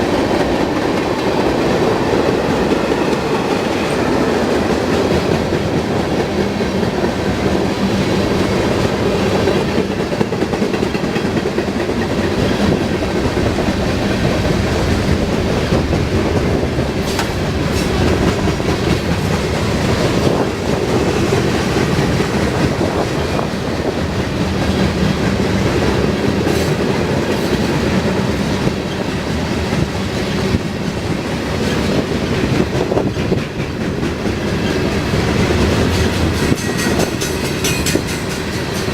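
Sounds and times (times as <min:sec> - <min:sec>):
freight train wheels rumbling: 0:00.0 - 0:38.9
wheels clicking over rail joints: 0:04.4 - 0:38.9.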